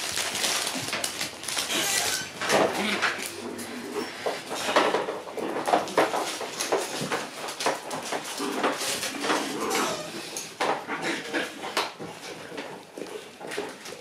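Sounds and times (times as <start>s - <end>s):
puppies scampering on hard floor: 0.0s - 14.0s.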